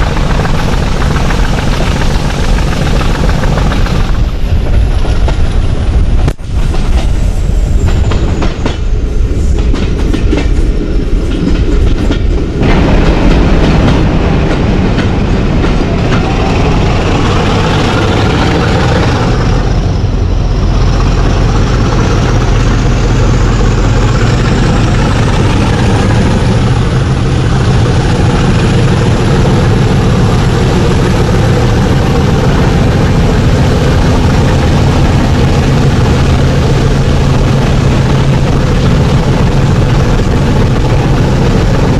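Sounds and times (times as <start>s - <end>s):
diesel locomotive engine working hard: 0.0s - 41.9s
train wheel clatter: 0.0s - 41.9s
wind buffeting: 0.0s - 41.9s.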